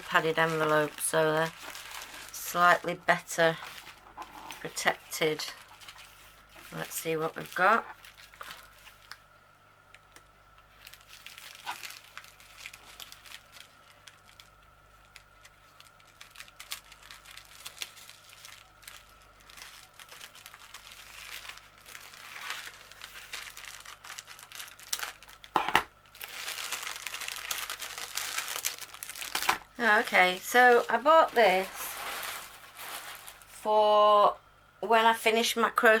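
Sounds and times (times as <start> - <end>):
envelope crinkling and tearing: 0.0 - 9.2, 10.7 - 33.6.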